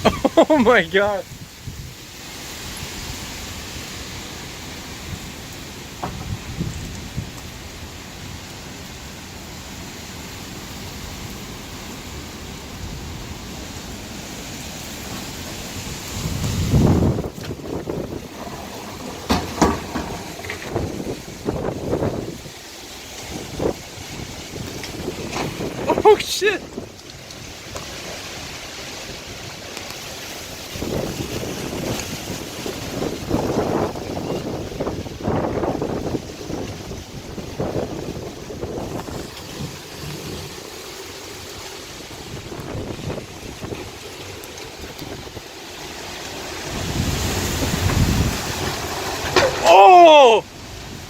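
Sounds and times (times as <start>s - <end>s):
heavy rain: 0.0s - 51.0s
wind: 0.0s - 51.0s.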